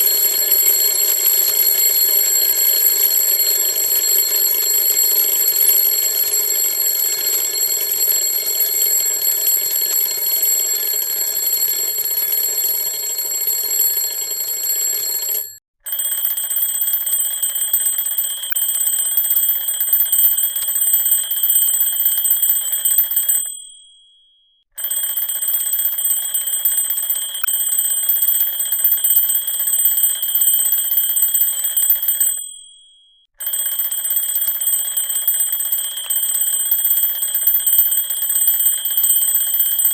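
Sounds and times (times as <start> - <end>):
high thin alarm clock ring: 0.0 - 13.2, 14.0 - 39.9
alarm clock ringing: 0.0 - 23.9, 24.8 - 39.9.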